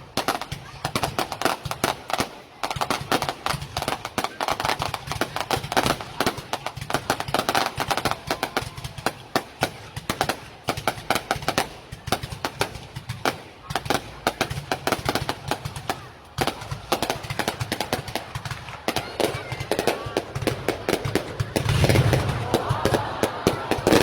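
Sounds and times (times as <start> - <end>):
fireworks crackling bangs: 0.0 - 24.0.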